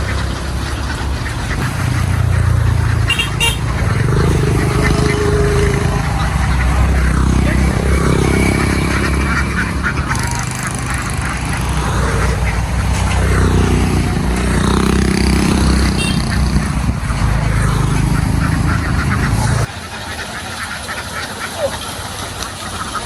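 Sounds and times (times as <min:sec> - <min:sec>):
truck engine running: 0:00.0 - 0:19.7
flock of ducks quacking: 0:00.0 - 0:23.0.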